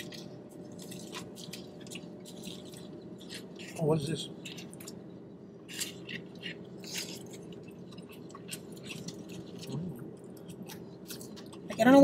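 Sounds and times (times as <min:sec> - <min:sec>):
chewing mouth sounds: 0:00.0 - 0:11.9
faint steady hum: 0:00.0 - 0:12.0.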